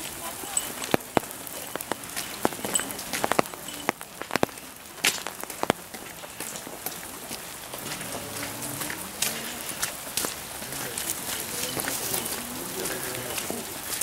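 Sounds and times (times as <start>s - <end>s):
raindrop taps: 0.0s - 14.0s
steady rain hiss: 0.0s - 14.0s.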